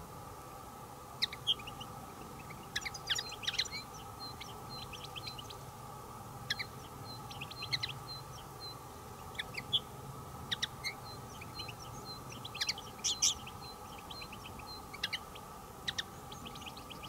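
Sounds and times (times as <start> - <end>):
finches twittering chirps: 1.2 - 5.8, 6.4 - 17.0.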